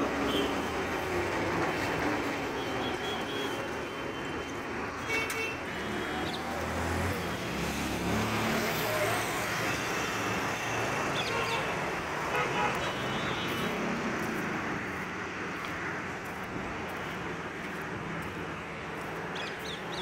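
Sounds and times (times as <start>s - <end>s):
passing vehicles: 0.0s - 20.0s.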